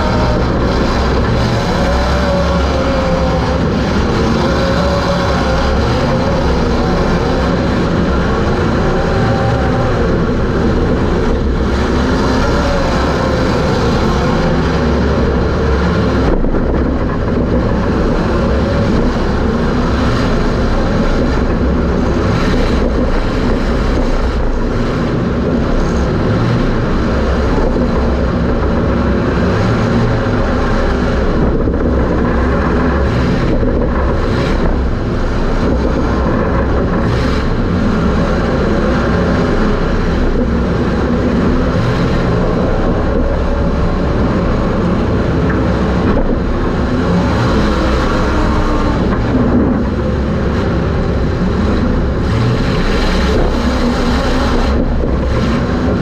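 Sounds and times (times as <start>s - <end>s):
race car engine from inside: 0.0s - 56.0s
road and wind noise: 0.0s - 56.0s.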